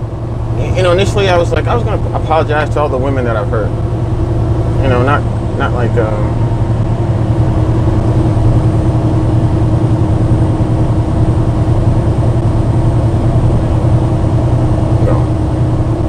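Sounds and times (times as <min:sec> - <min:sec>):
road noise: 0:00.0 - 0:16.0
truck diesel engine drone: 0:00.0 - 0:16.0.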